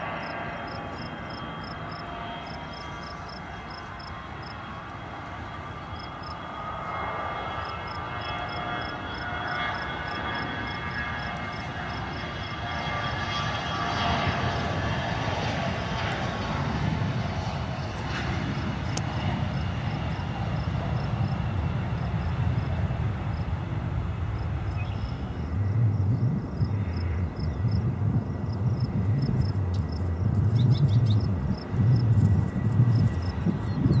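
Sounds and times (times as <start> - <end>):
jet engines whining: 0.0 - 34.0.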